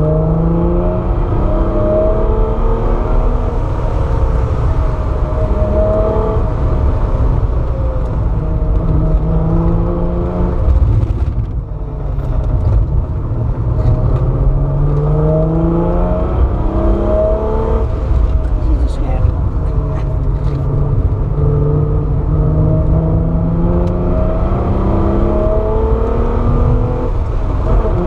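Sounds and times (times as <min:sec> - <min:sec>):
car engine revving: 0:00.0 - 0:28.0
road rumble: 0:00.0 - 0:28.0.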